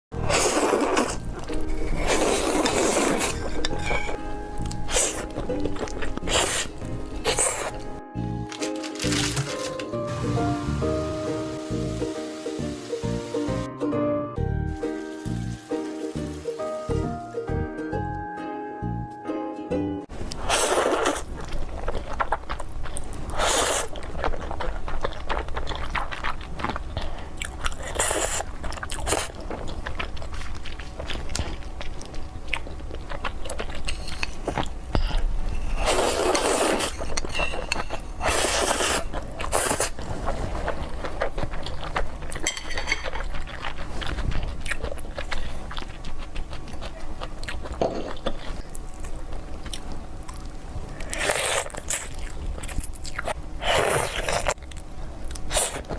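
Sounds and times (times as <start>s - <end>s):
person chewing and crunching: 0.2s - 10.8s, 20.2s - 55.9s.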